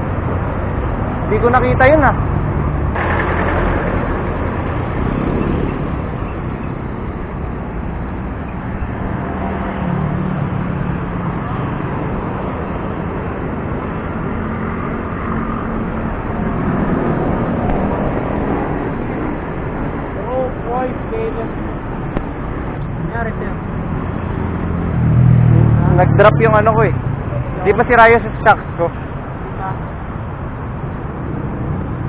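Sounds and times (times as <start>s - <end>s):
road traffic rush: 0.0s - 32.0s.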